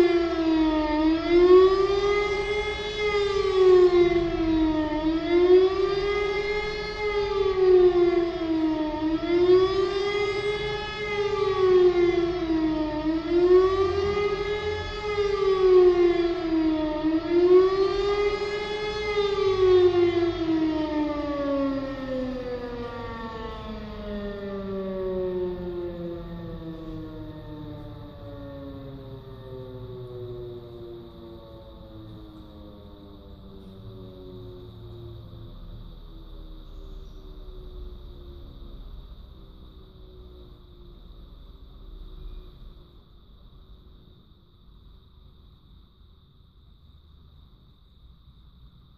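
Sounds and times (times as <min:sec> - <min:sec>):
rising and falling siren: 0:00.0 - 0:44.7.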